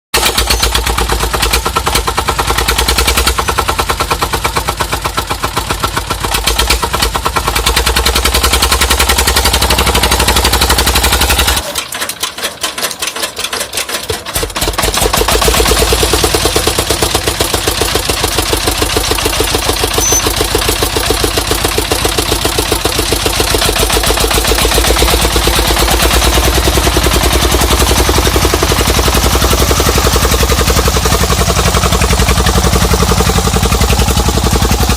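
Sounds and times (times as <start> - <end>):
truck diesel engine running: 0.2 - 34.9.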